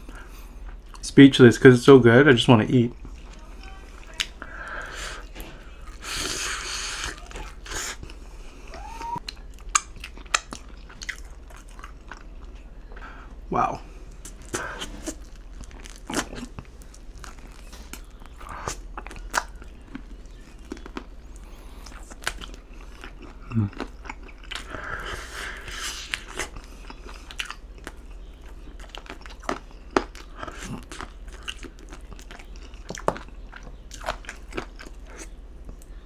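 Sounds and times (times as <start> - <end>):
wet chewing and smacking: 0.1 - 1.0, 2.9 - 4.5, 5.2 - 13.1, 14.1 - 36.0.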